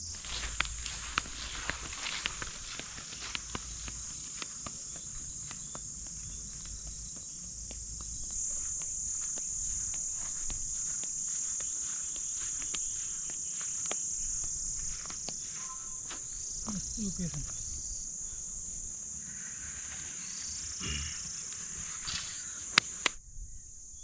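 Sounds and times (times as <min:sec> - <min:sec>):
footsteps in dry grass: 0:00.0 - 0:23.1
insect chorus: 0:00.0 - 0:24.0.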